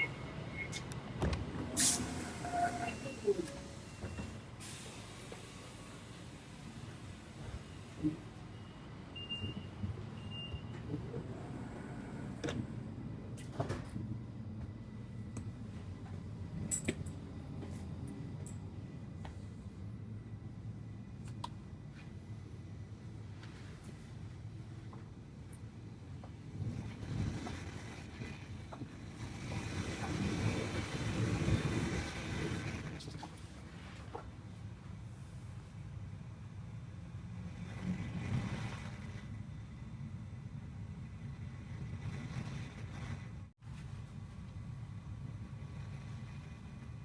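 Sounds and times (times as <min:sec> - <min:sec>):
train rumble inside carriage: 0:00.0 - 0:47.0.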